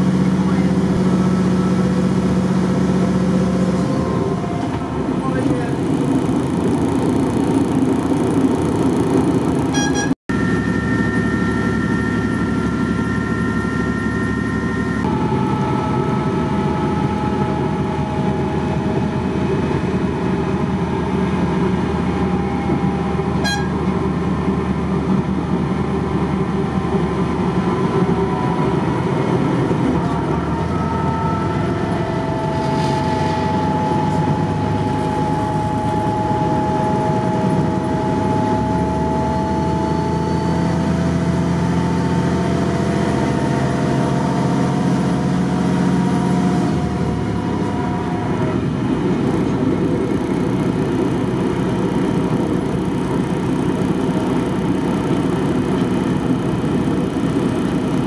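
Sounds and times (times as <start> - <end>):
drivetrain whine: 0.0 - 58.0
train engine and wheels rumbling: 0.0 - 58.0.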